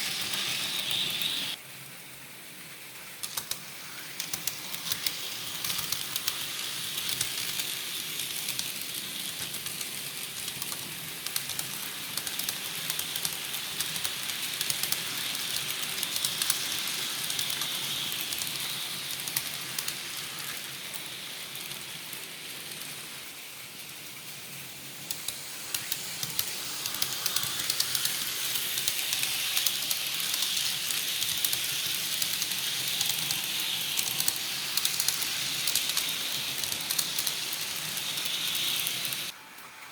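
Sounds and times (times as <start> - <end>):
model train rattling on track: 0.0 - 1.6, 3.2 - 39.4.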